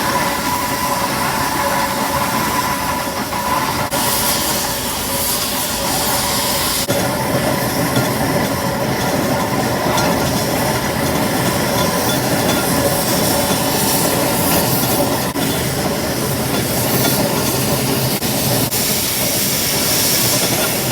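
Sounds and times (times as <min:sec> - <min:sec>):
steam engine running: 0:00.0 - 0:20.9
steam hissing: 0:00.0 - 0:20.9.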